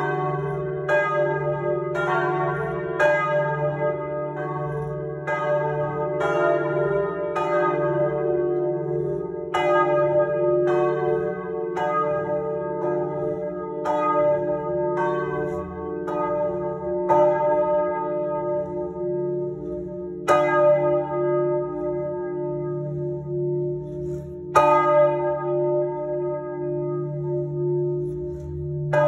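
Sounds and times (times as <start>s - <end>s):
church bells ringing: 0.0s - 29.0s.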